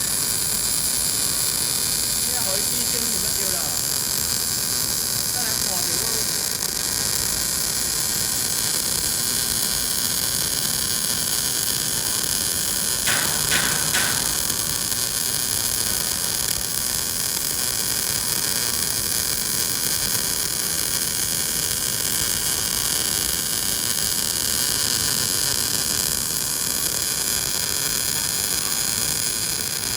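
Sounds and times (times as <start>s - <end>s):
welding crackles: 0.0s - 29.9s
welding hiss: 0.0s - 29.9s.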